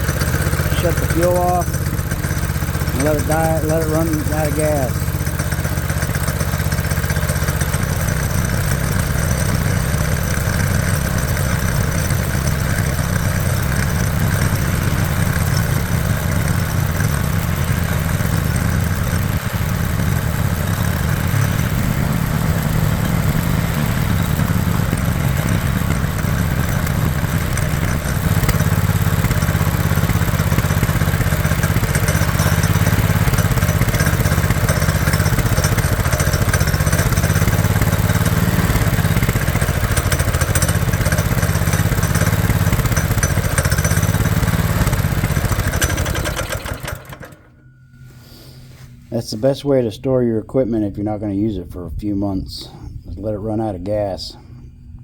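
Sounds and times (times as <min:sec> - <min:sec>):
small engine idling: 0:00.0 - 0:49.1.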